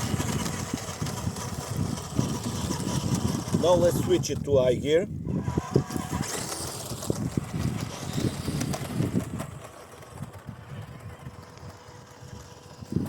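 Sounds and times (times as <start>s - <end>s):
tyres rolling over dirt: 0.0s - 4.6s, 5.3s - 13.0s
small electric motor whining: 0.0s - 13.0s.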